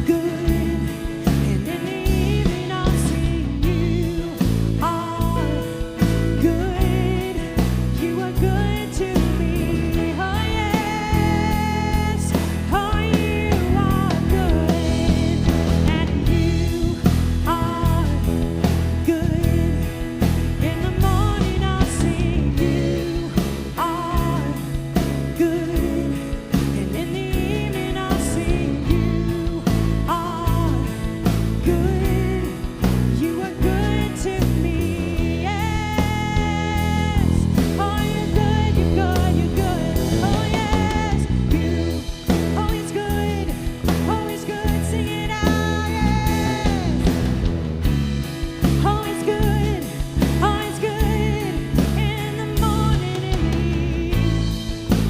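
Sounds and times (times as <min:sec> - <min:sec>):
person singing: 0:00.0 - 0:55.0
steady drum beat: 0:00.0 - 0:55.0
worship band playing: 0:00.0 - 0:55.0.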